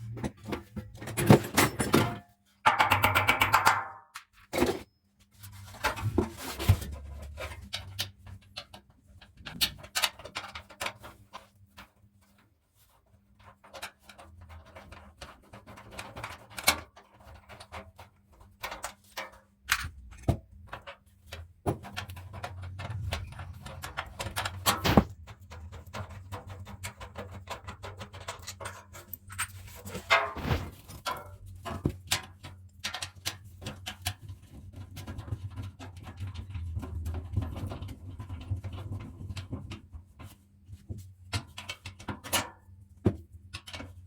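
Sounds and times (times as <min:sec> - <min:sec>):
clicks knocks and scrapes of parts: 0:00.0 - 0:44.0.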